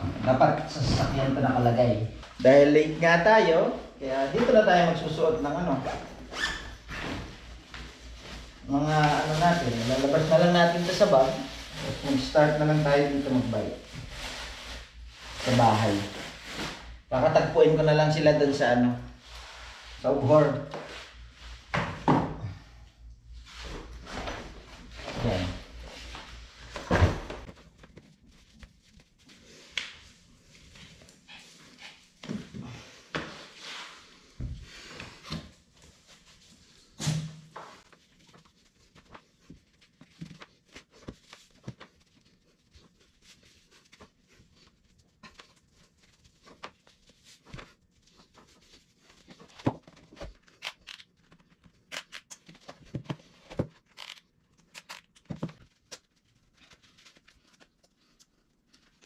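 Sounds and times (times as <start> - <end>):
clothes and kit rustling: 0.0 - 22.0, 23.3 - 59.0.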